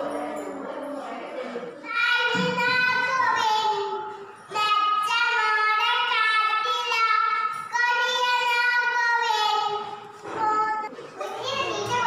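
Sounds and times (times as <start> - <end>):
girl singing: 1.9 - 12.0.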